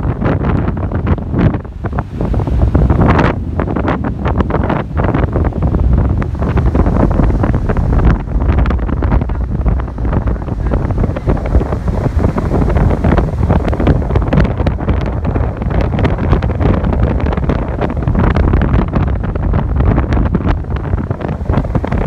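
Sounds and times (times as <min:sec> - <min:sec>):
heavy surf breaking: 0:00.0 - 0:22.0
wind buffeting microphone: 0:00.0 - 0:22.0.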